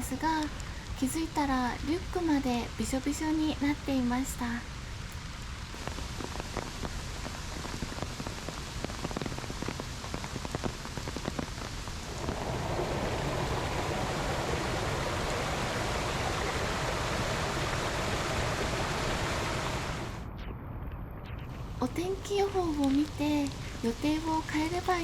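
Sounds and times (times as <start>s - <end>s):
heavy rain falling: 0.0s - 20.3s, 21.3s - 25.0s.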